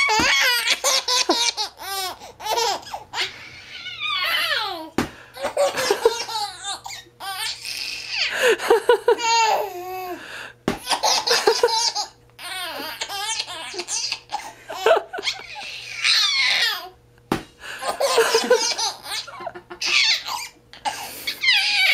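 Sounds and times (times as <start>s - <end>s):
baby laughing: 0.0s - 10.2s, 10.8s - 16.9s, 17.8s - 21.9s.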